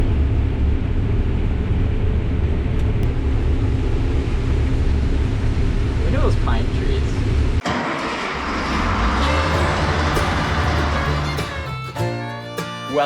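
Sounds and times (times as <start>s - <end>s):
combine harvester rumbling: 0.0s - 13.0s.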